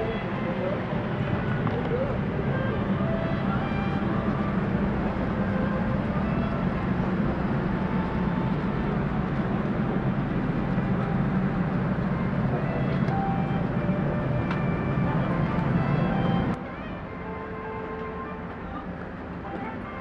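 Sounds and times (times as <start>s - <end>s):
low vehicle drone: 0.0s - 20.0s.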